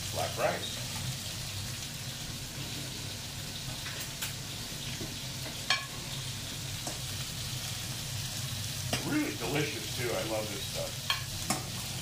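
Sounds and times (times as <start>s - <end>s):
vegetables sizzling in skillet: 0.0s - 12.0s.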